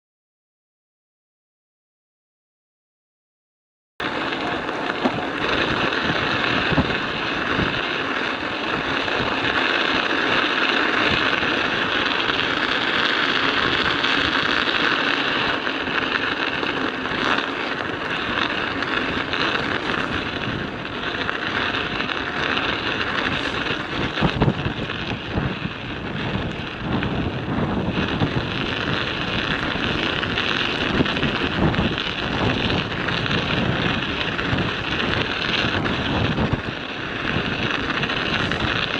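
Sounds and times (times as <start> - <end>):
studded tyres crunching on ice: 4.0 - 38.9
wind buffeting microphone: 4.0 - 38.9.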